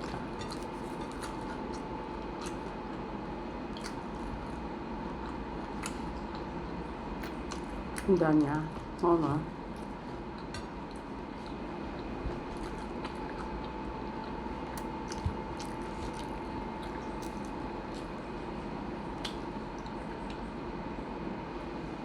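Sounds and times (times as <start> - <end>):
room noise hum: 0.0 - 22.0.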